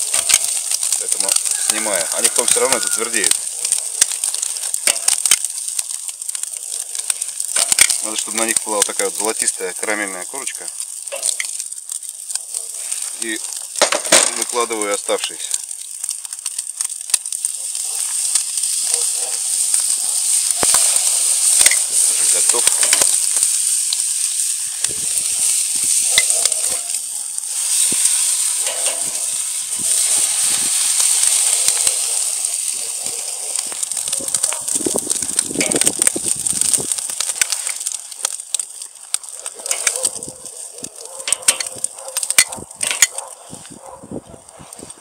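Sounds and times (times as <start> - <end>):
bacon sizzling on grill: 0.0 - 45.0.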